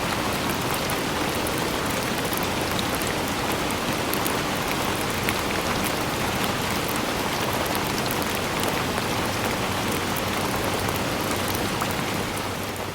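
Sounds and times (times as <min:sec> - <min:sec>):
raindrops ticking on surfaces: 0:00.0 - 0:12.9
steady rainfall: 0:00.0 - 0:12.9.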